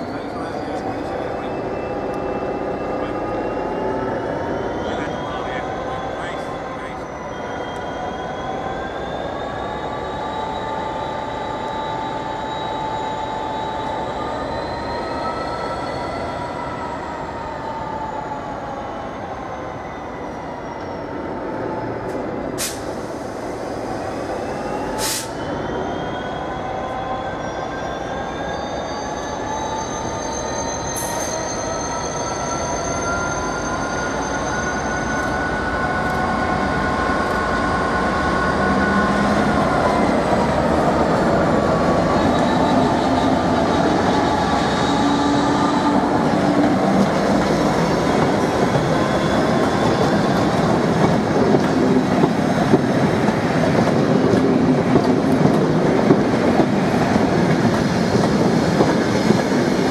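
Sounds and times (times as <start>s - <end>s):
train rolling on rails: 0.0s - 59.9s.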